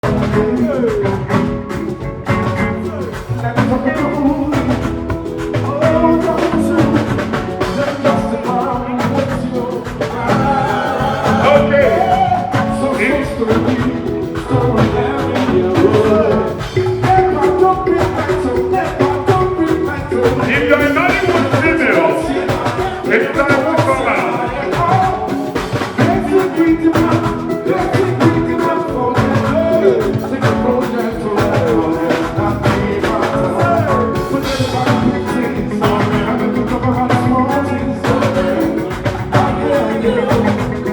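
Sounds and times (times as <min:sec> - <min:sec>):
drum beat: 0:00.0 - 0:40.9
person singing: 0:00.0 - 0:40.9.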